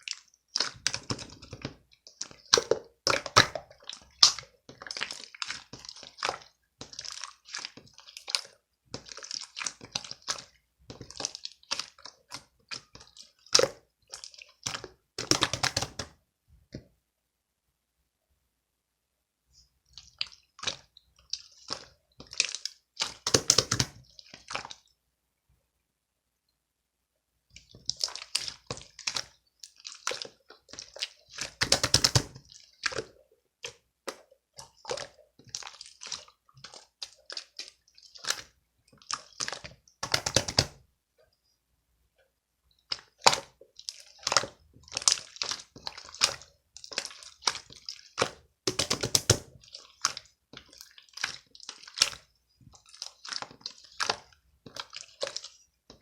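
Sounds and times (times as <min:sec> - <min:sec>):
wet squishing and dripping: 0:00.0 - 0:16.9, 0:19.5 - 0:25.0, 0:27.5 - 0:56.0.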